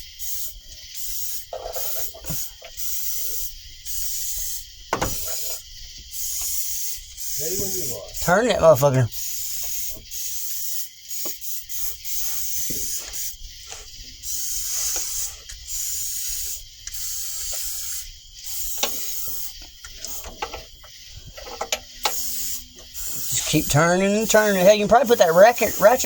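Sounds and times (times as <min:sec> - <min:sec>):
aerosol can spraying: 0:00.0 - 0:26.0.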